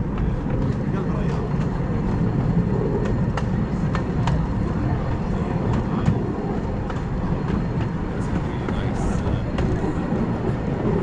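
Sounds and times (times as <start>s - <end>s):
miniature steam train rumbling: 0.0s - 11.0s.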